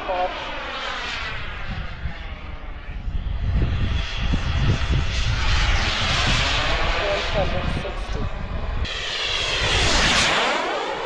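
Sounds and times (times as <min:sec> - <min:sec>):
jet turbine whine: 0:00.0 - 0:11.0
wind rumbling on microphone: 0:00.0 - 0:11.0.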